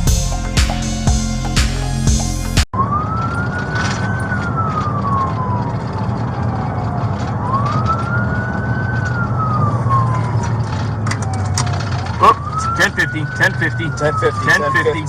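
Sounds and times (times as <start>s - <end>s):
police siren wailing: 2.8s - 15.0s
vehicle engine rumble and road noise: 2.8s - 15.0s.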